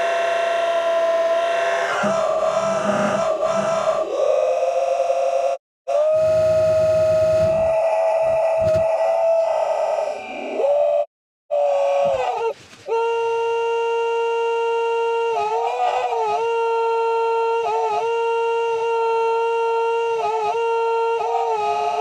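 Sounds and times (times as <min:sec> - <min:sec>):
slowed crying voice held tone: 0:00.0 - 0:06.8, 0:07.5 - 0:22.0.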